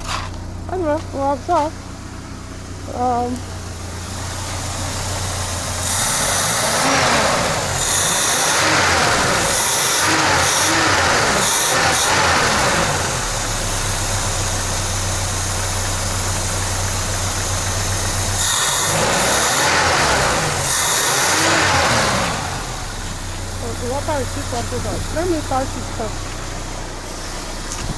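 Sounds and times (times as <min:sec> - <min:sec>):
car engine revving and idling: 0:00.0 - 0:27.9.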